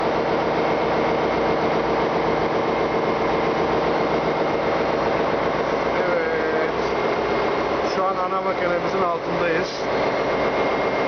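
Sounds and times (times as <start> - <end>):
machinery mechanical drone: 0.0 - 11.0
steady machine whine: 0.0 - 11.0.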